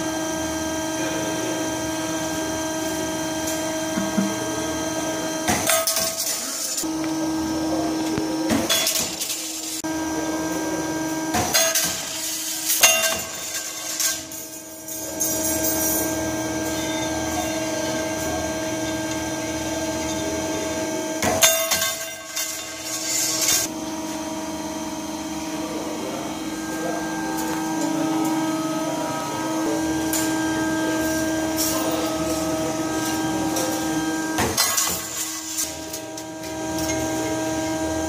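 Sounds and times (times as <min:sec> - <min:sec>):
machine motor hum: 0:00.0 - 0:12.7, 0:15.0 - 0:21.5, 0:22.6 - 0:38.0.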